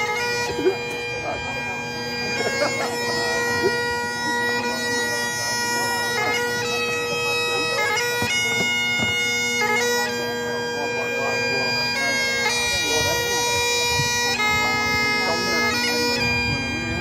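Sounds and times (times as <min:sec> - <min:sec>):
bagpipe chanter notes: 0:00.0 - 0:17.0
bagpipe drones: 0:00.0 - 0:17.0
bagpipe grace-note flourishes: 0:00.0 - 0:17.0.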